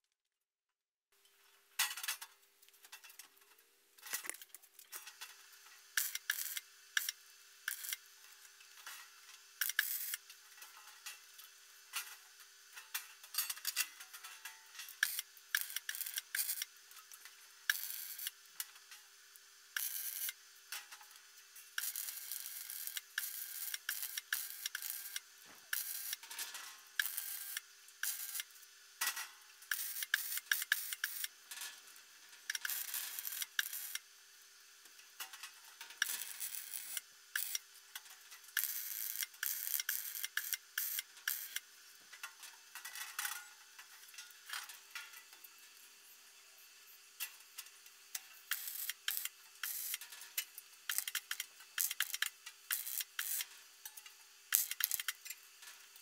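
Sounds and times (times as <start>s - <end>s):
arc welding crackle: 1.8s - 45.9s, 47.1s - 56.0s.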